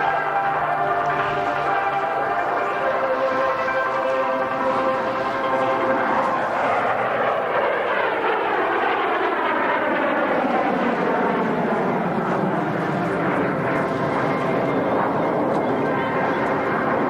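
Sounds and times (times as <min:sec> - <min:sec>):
jet flying past: 0:00.0 - 0:17.0.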